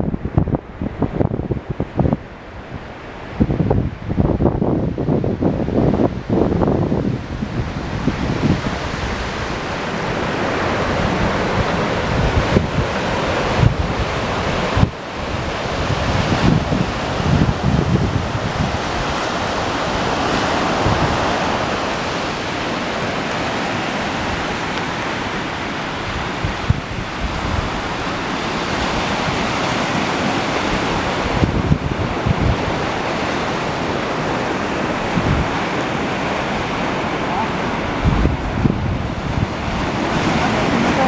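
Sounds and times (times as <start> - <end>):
waves breaking on a beach: 0.0 - 41.0
wind buffeting microphone: 0.0 - 41.0.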